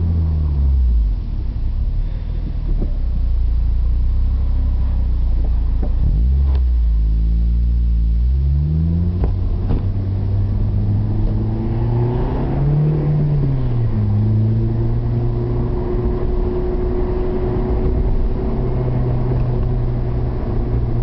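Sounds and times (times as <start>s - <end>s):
car engine exhaust note: 0.0s - 21.0s.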